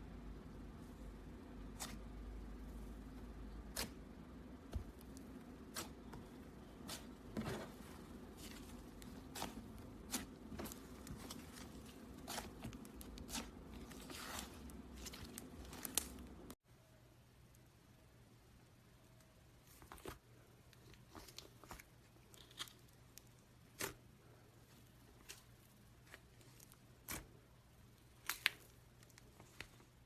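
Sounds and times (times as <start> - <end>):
low steady hum: 0.0 - 30.0
slime squelching: 0.6 - 16.6, 20.8 - 30.0.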